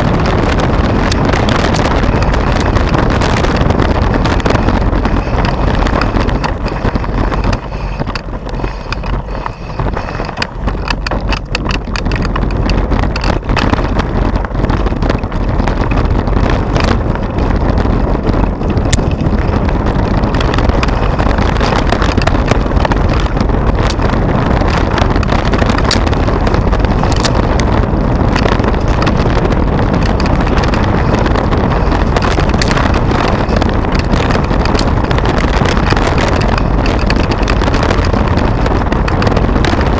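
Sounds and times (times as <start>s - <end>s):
bike rattling over stones: 0.0s - 39.9s
wind and tyre rumble: 0.0s - 39.9s.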